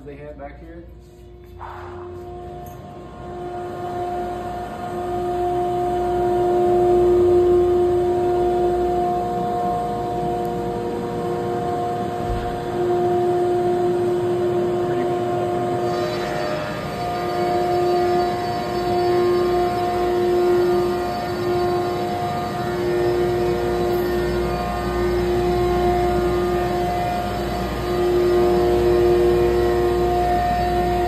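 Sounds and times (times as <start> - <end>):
machine whining: 0.0 - 31.0.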